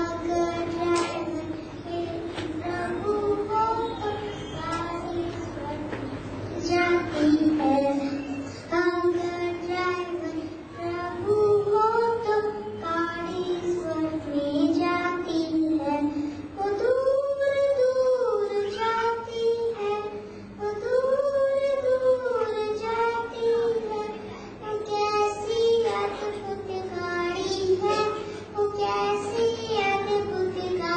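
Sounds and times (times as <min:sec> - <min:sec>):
girl singing into a microphone: 0:00.0 - 0:30.9.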